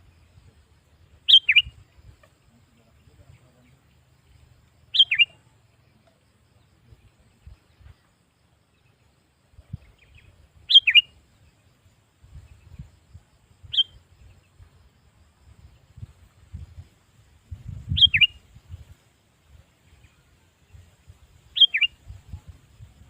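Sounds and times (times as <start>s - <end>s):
bird chirping: 0.0s - 16.9s, 17.5s - 23.0s.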